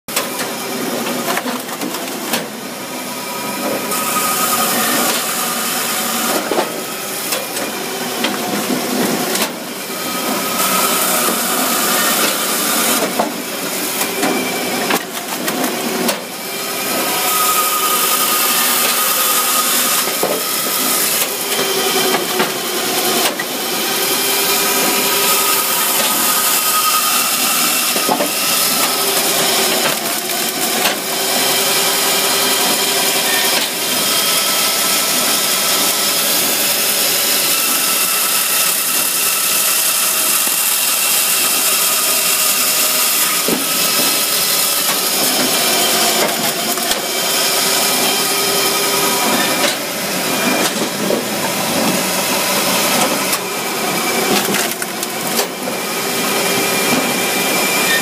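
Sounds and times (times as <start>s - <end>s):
saw cutting through logs: 0.1s - 58.0s.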